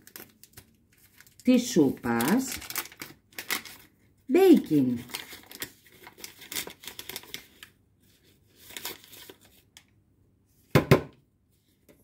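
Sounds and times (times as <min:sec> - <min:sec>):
paper sachet crinkling: 0:00.0 - 0:09.8.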